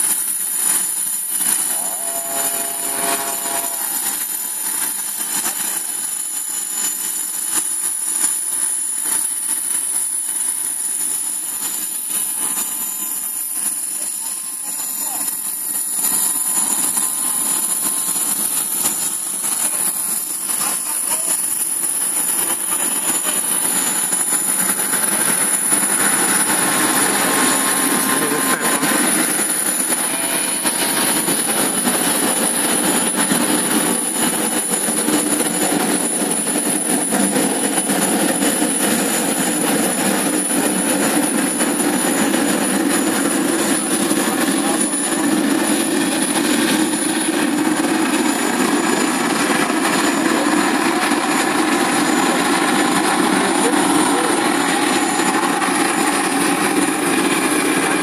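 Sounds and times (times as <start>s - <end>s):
aircraft engine drone: 0.0s - 58.0s
high steady whine: 0.0s - 58.0s.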